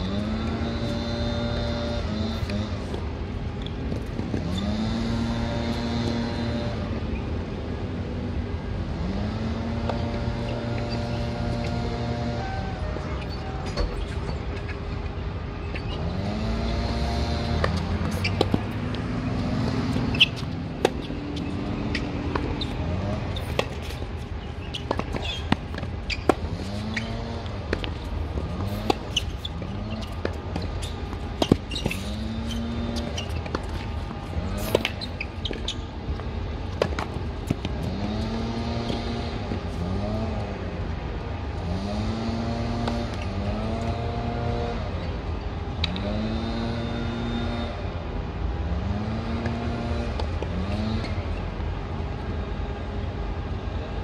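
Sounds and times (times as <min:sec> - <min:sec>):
engine-like drone: 0:00.0 - 0:54.0.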